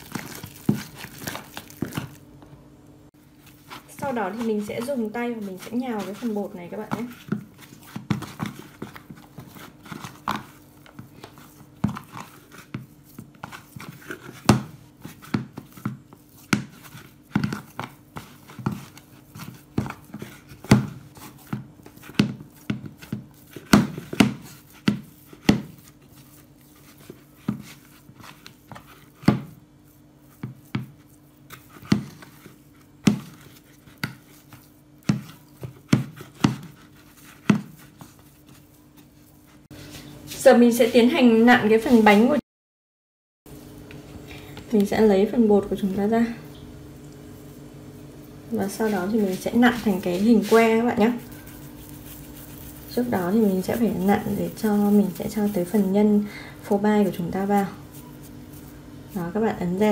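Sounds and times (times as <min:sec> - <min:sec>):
hands kneading dough: 0:00.0 - 0:42.4, 0:47.0 - 0:59.9.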